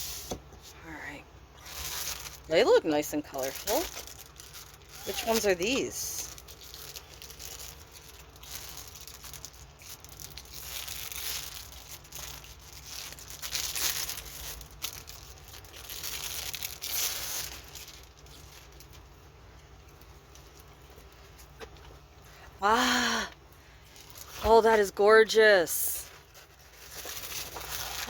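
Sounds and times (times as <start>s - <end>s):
packaging rustling and crinkling: 1.6s - 22.3s, 23.9s - 24.7s, 25.9s - 28.0s.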